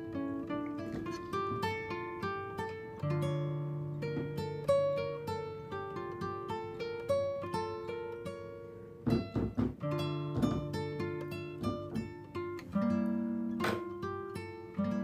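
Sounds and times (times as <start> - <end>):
plucked acoustic guitar melody: 0.0 - 15.0.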